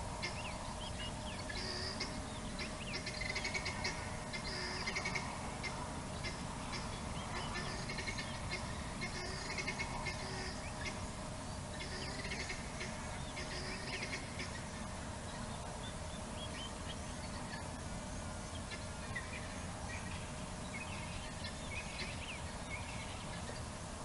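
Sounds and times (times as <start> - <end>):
small birds chirping: 0.0 - 23.9
low background noise: 0.0 - 24.0.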